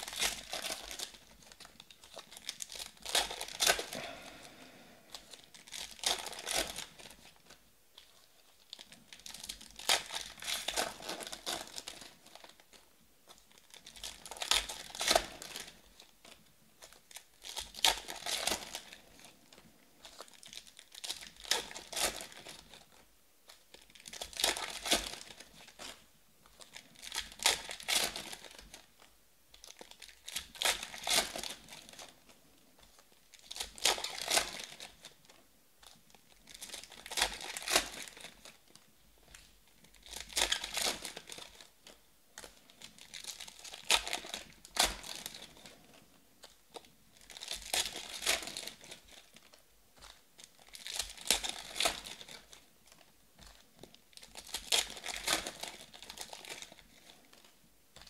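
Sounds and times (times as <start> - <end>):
foil wrappers tearing and crinkling: 0.0 - 19.4, 20.0 - 28.9, 29.6 - 58.0.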